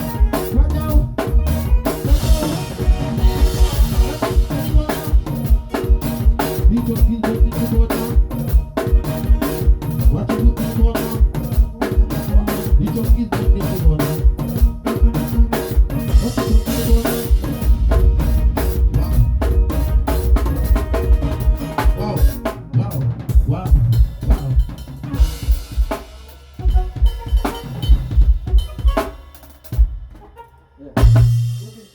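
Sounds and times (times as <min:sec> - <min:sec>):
drum kit playing fast: 0:00.0 - 0:30.4, 0:31.0 - 0:31.9
pitched backing music: 0:00.0 - 0:31.9.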